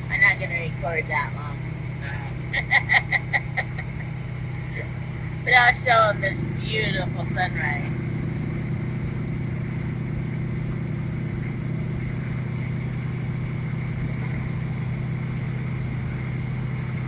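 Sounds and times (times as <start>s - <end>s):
truck engine and road drone: 0.0s - 17.0s.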